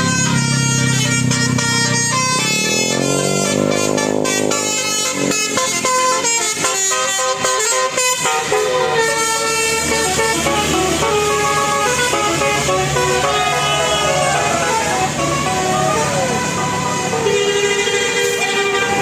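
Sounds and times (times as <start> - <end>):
musical air horn melody: 0.0 - 19.0.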